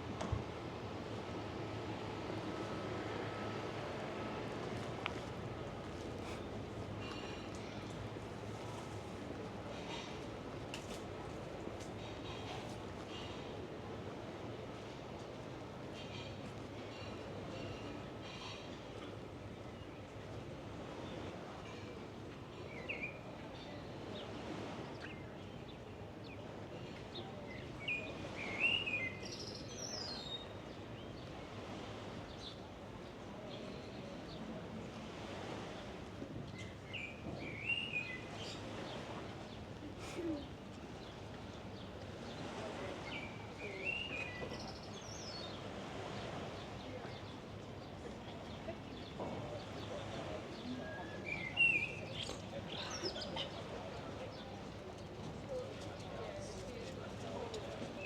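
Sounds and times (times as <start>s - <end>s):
outdoor background noise: 0.0s - 58.0s.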